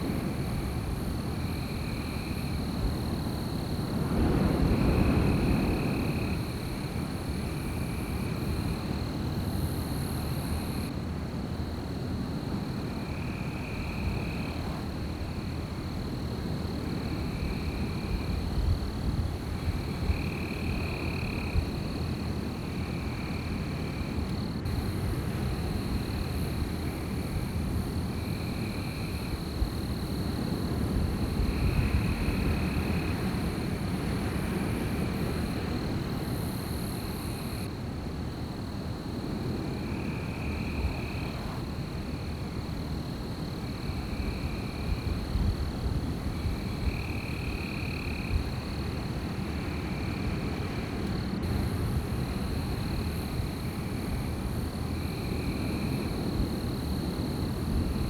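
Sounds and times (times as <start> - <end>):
wind blowing: 0.0 - 10.9, 16.8 - 58.0.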